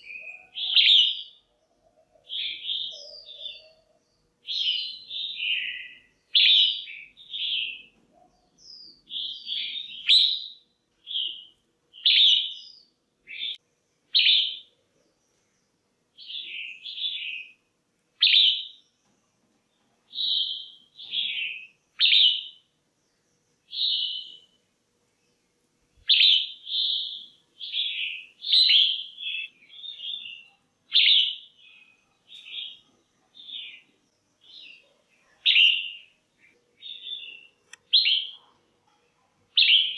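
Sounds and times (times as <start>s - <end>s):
bird chirping calls: 0.0s - 17.6s, 18.2s - 19.1s, 19.7s - 24.6s, 26.0s - 38.7s, 39.5s - 39.9s.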